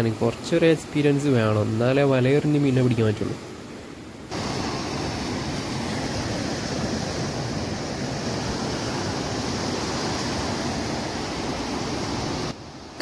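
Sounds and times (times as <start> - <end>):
ocean surf breaking on sand: 0.0 - 13.0.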